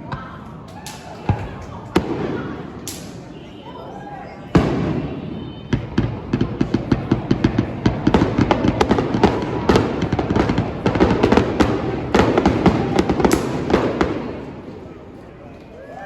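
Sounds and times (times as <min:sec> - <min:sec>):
fireworks bangs and crackles: 0:00.0 - 0:15.2.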